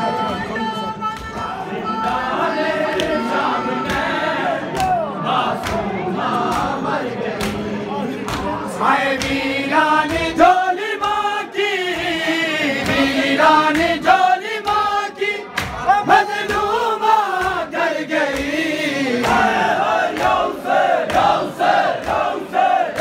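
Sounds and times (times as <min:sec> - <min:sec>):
men chanting in unison: 0:01.2 - 0:23.0.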